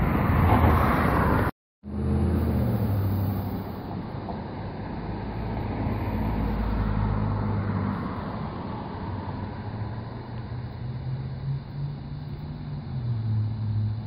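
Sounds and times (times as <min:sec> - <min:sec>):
engine hum of passing vehicles: 0:00.0 - 0:14.0
road traffic rush: 0:00.0 - 0:14.0.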